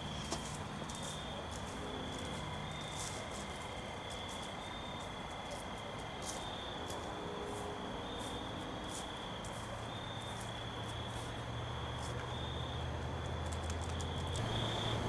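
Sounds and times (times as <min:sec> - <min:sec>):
night insects chirping: 0:00.0 - 0:15.0.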